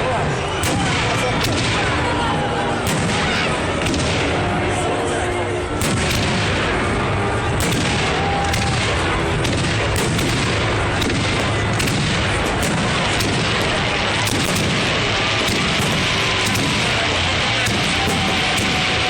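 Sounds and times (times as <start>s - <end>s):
fireworks bursting: 0.5s - 19.0s.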